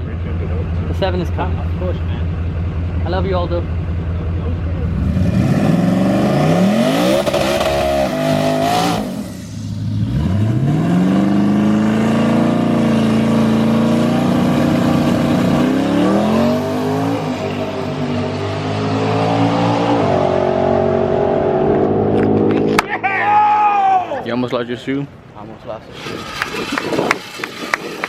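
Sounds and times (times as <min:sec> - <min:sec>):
drag car engine at full throttle: 0:00.0 - 0:22.9, 0:25.8 - 0:28.0.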